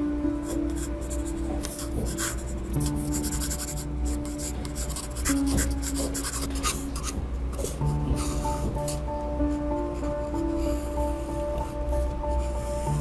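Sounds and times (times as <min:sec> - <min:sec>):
background music with held notes: 0:00.0 - 0:13.0
pencil sketching on paper: 0:00.4 - 0:13.0.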